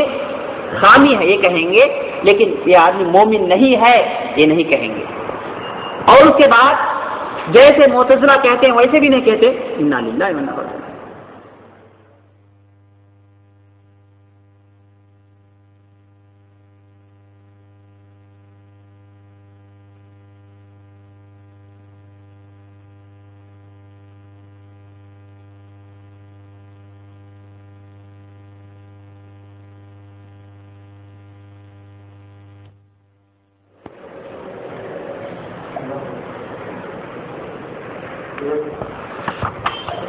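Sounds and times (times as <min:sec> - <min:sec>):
electrical hum: 0:00.0 - 0:39.1.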